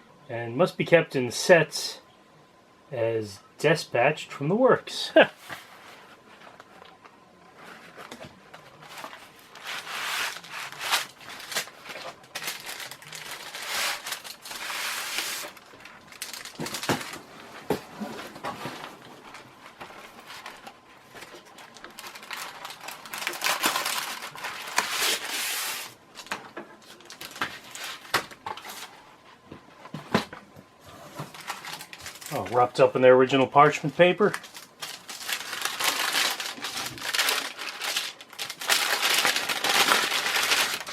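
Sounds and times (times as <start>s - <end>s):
paper crinkling and rustling: 5.4s - 32.6s, 33.6s - 40.9s.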